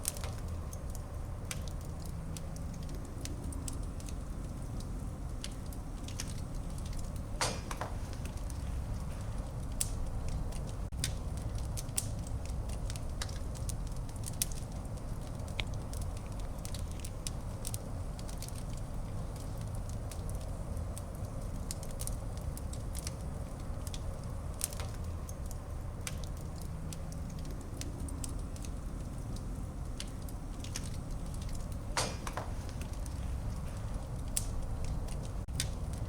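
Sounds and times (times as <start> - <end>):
low rumble of fire: 0.0 - 36.0
wood fire crackling and popping: 0.0 - 36.0.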